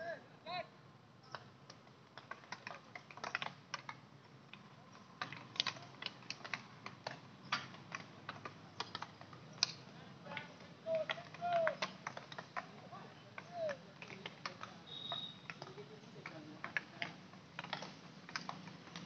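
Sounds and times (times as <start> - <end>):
hockey sticks striking balls: 1.3 - 19.0.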